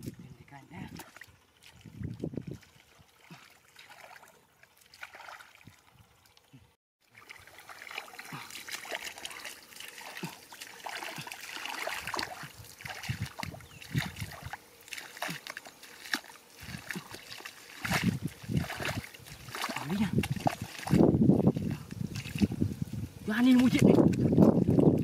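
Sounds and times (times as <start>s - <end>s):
splashing in muddy water: 0.0s - 25.0s.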